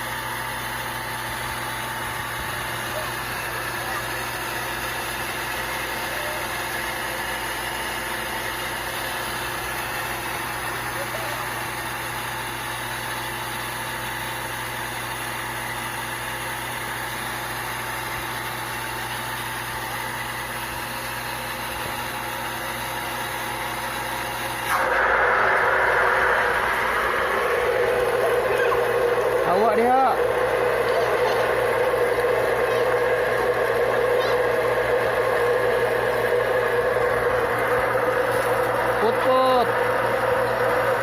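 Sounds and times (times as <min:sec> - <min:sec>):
water pump humming: 0:00.0 - 0:41.0.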